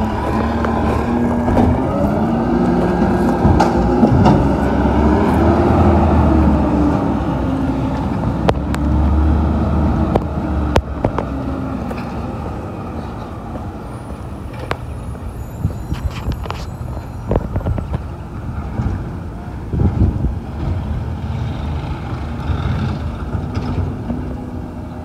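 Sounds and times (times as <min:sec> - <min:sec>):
diesel truck engine driving away: 0:00.0 - 0:15.9, 0:18.1 - 0:25.0.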